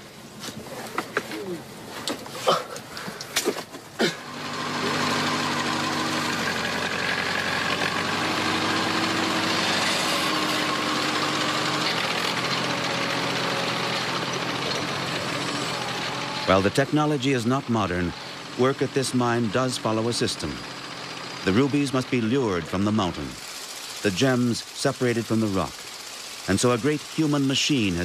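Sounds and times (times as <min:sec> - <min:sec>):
engine running steadily: 0:00.9 - 0:28.0.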